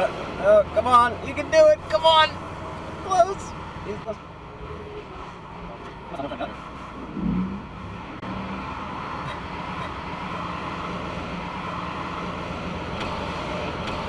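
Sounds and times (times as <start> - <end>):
road-side rumble: 0.0 - 14.0.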